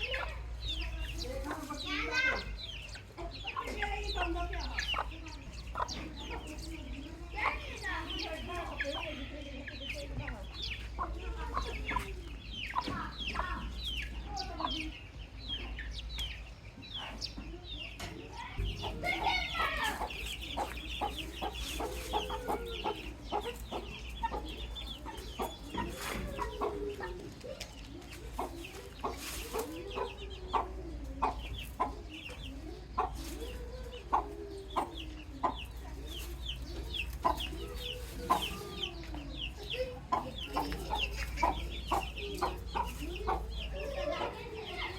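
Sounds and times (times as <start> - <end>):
adult chickens clucking: 0.0 - 44.9
baby chicks peeping: 0.0 - 44.9.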